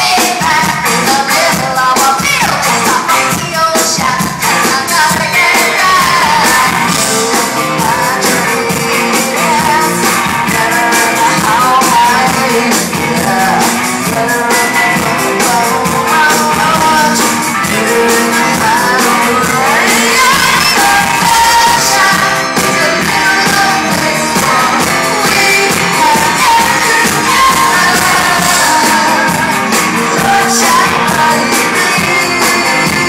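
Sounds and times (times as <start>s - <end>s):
hard rock band playing live: 0.0s - 33.0s
person singing: 0.0s - 33.0s
steady drum beat: 0.0s - 33.0s.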